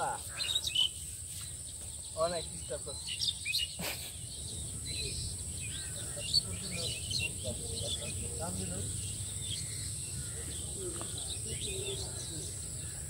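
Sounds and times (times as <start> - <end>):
bird chirps: 0.0 - 13.0
insects droning: 0.0 - 13.0.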